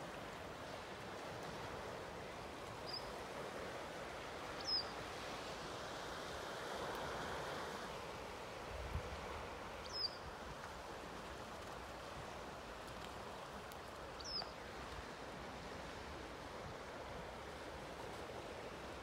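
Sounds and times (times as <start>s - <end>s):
surf washing on shore: 0.0s - 19.0s.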